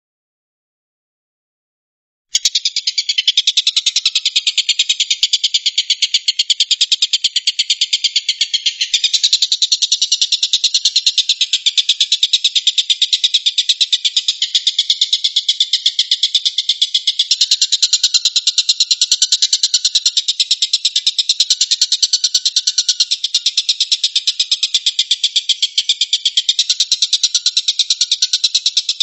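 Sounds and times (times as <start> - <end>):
bird harsh rattling chatter: 2.4 - 29.0.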